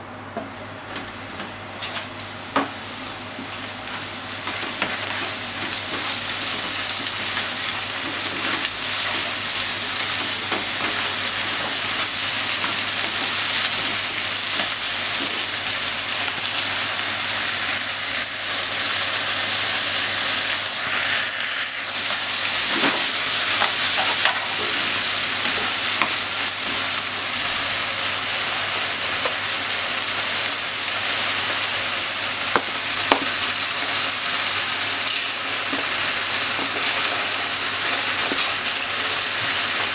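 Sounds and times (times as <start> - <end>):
food sizzling in a frying pan: 0.5 - 39.9.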